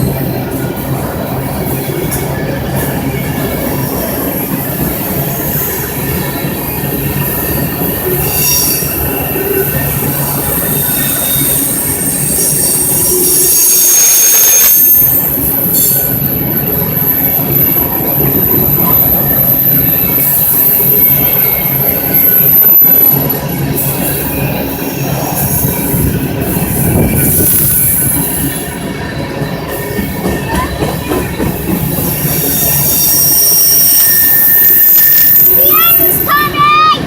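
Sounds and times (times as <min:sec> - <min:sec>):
train wheels rumbling on rails: 0:00.0 - 0:37.0
high wheel squeal: 0:03.8 - 0:28.8, 0:31.8 - 0:37.0.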